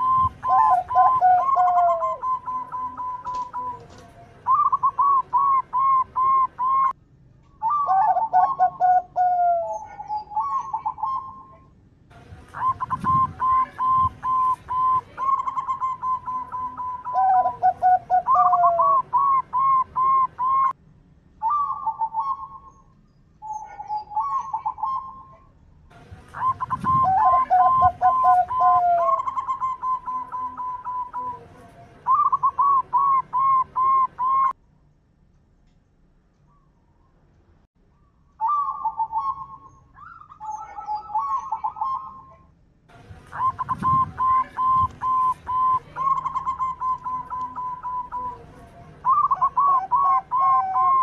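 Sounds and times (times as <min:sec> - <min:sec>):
doves cooing: 0:00.0 - 0:07.0, 0:07.6 - 0:11.7, 0:12.5 - 0:20.8, 0:23.4 - 0:25.5, 0:26.1 - 0:34.6, 0:38.4 - 0:42.5, 0:43.2 - 0:51.0.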